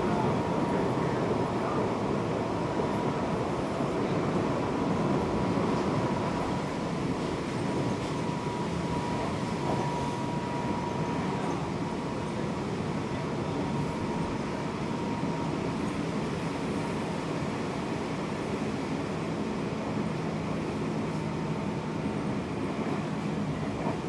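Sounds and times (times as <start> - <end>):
thin steady whine: 0.0 - 24.0
train rolling rumble: 0.0 - 24.0.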